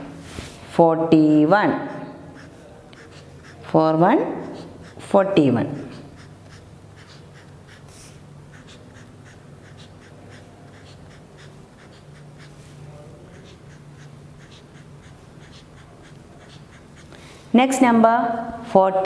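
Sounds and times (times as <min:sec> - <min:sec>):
marker scratching on paper: 0:01.1 - 0:17.2.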